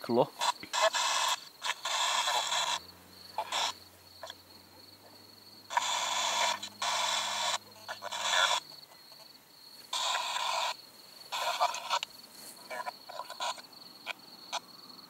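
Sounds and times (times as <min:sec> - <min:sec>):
radio static bursts: 0:00.0 - 0:04.4, 0:05.7 - 0:09.3, 0:09.9 - 0:14.7.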